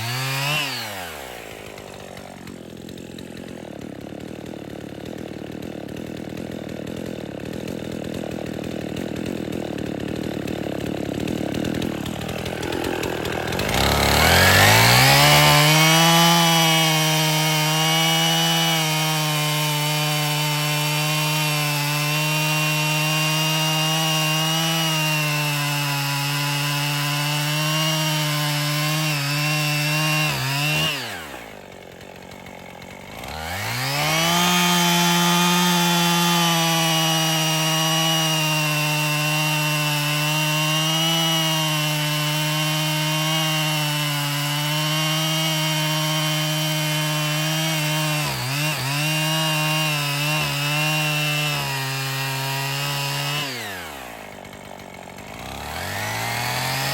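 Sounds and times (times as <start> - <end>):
chainsaw engine revving: 0.0 - 56.9.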